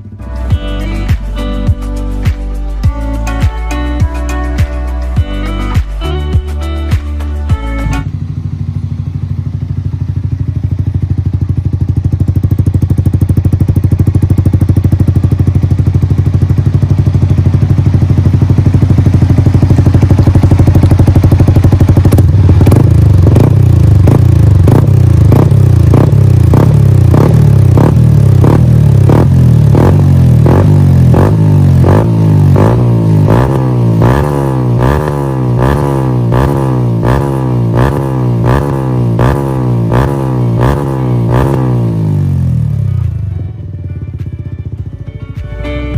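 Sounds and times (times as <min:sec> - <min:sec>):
motorcycle engine idling: 0:00.0 - 0:45.9
motorcycle engine revving: 0:05.3 - 0:45.9.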